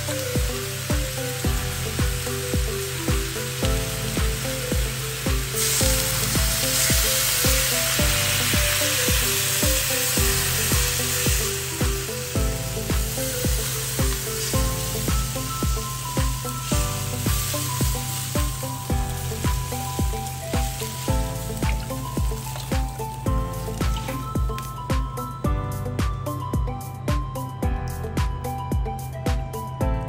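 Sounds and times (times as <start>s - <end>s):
water sizzling in a hot wok: 0.0s - 26.5s
background music with steady beat: 0.0s - 30.0s.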